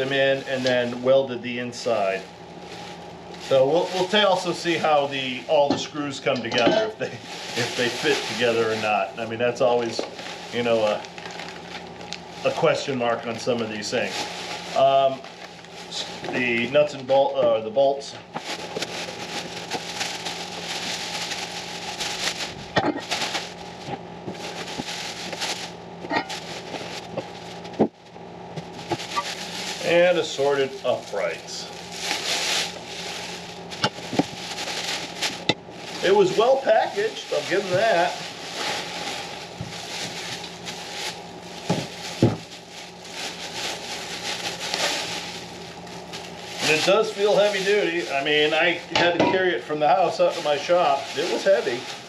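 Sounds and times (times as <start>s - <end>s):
plastic packaging crinkling: 0.0s - 27.8s, 28.6s - 52.0s.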